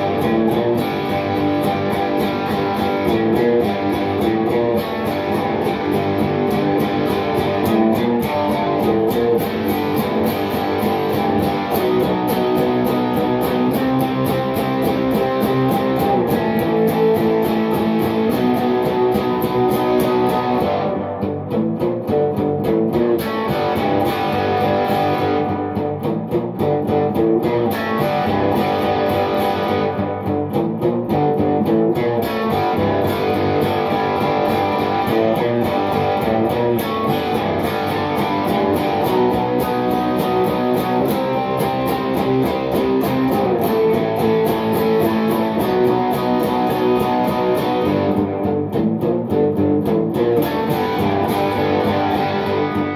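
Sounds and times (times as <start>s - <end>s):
electric guitar through amplifier: 0.0s - 52.9s.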